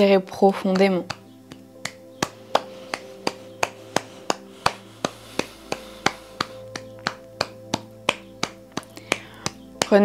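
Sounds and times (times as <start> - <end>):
soft droning background music: 0.0 - 10.0
person clapping hands: 0.6 - 10.0.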